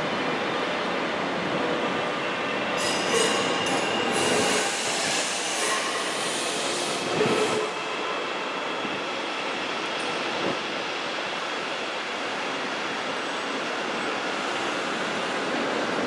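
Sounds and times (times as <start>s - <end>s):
electric train whine: 0.0s - 16.0s
train wheels rumbling on rails: 0.0s - 16.0s.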